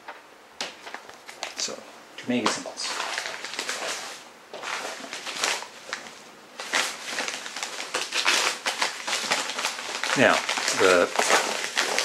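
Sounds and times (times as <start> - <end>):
packaging rustling and crinkling: 0.7 - 12.0.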